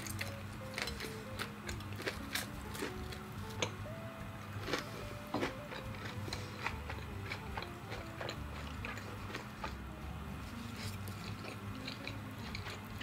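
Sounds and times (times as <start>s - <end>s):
chewing and biting noodles: 0.0s - 3.6s, 4.6s - 9.8s, 10.5s - 13.0s.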